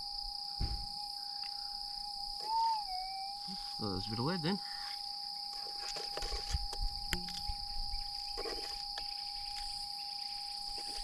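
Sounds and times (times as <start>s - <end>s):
insects droning: 0.0s - 11.0s
steady pitched hum: 0.0s - 11.0s.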